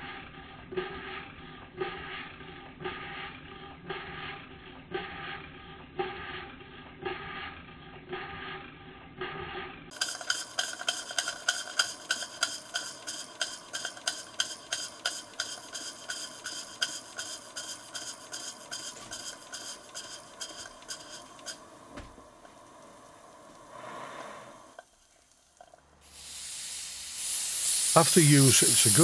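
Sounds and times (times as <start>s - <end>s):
model steam engine running: 0.0s - 23.5s, 26.0s - 29.0s.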